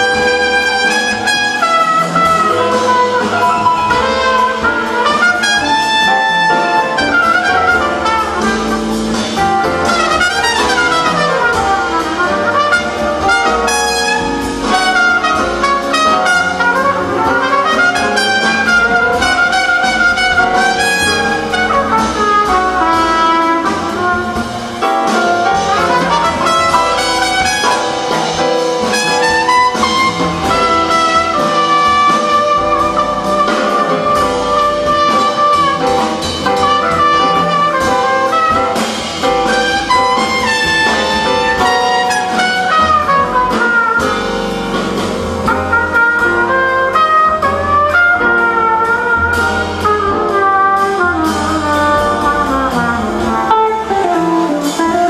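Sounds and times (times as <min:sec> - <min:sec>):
big band jazz: 0:00.0 - 0:55.0
trumpet playing lead melody: 0:00.0 - 0:55.0.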